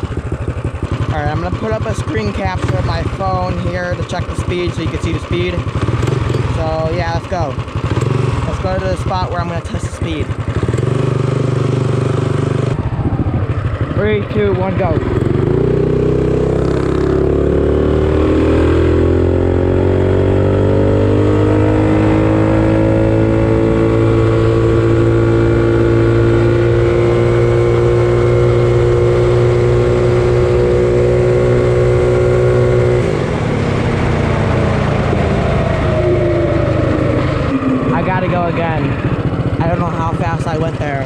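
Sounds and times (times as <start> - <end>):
small engine accelerating at full throttle: 4.5 - 41.0.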